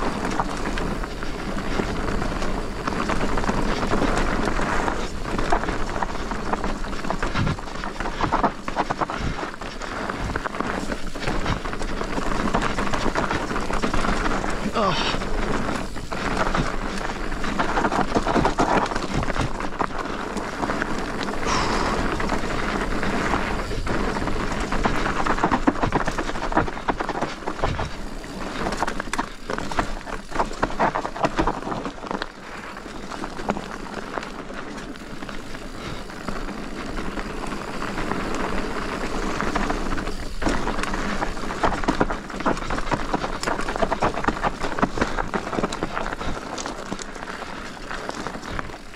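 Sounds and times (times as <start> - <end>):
bike clattering over bumps: 0.0 - 48.9
tyres crunching over dirt and stones: 0.0 - 48.9.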